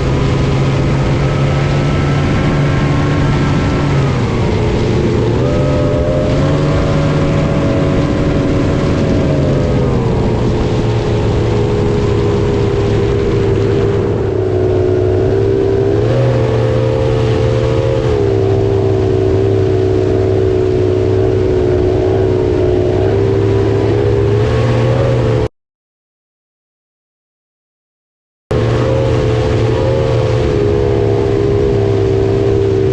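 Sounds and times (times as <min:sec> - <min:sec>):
loud engine running: 0:00.0 - 0:25.4, 0:28.5 - 0:32.9.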